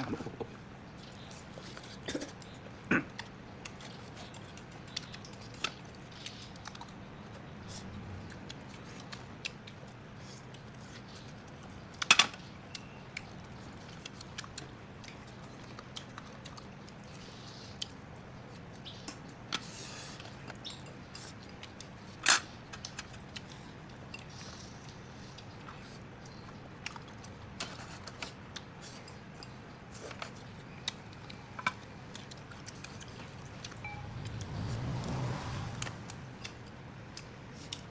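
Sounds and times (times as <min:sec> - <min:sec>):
person chewing food: 0:00.2 - 0:18.9, 0:22.8 - 0:37.9.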